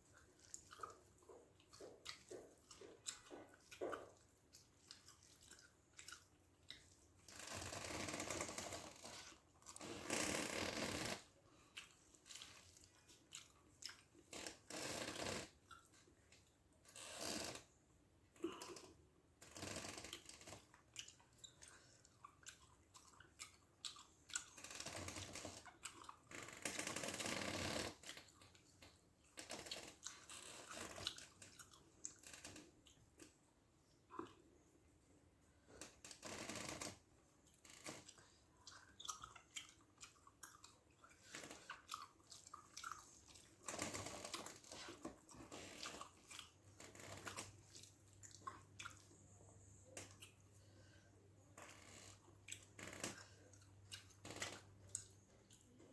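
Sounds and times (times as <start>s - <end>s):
chewing and wet mouth smacking: 0.0s - 10.2s, 11.1s - 17.8s, 19.8s - 27.2s, 27.9s - 35.1s, 35.7s - 55.9s.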